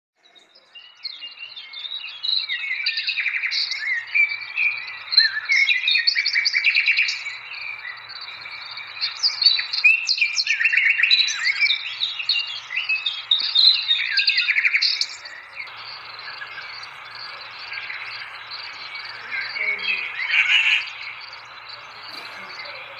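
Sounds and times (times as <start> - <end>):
small birds chirping: 0.2 - 22.9.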